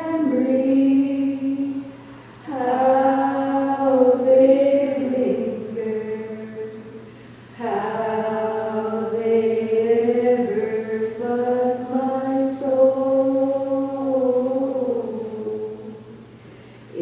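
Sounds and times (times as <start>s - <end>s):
woman singing slowly: 0.0s - 16.2s.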